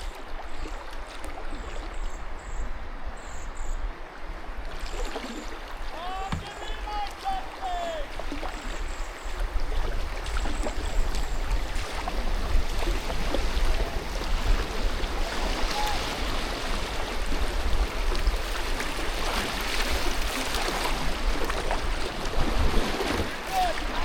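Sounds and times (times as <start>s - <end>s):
river water rushing: 4.5s - 24.0s.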